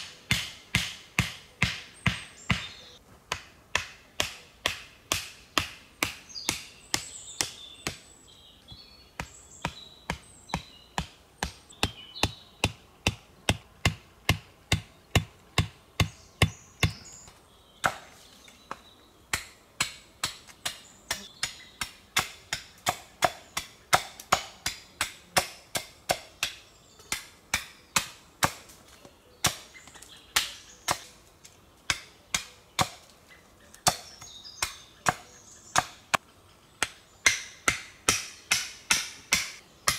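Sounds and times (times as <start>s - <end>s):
axe chopping wood: 0.3s - 8.0s, 9.2s - 17.0s, 17.8s - 28.8s, 29.4s - 31.2s, 31.9s - 33.1s, 33.8s - 36.2s, 36.8s - 39.9s.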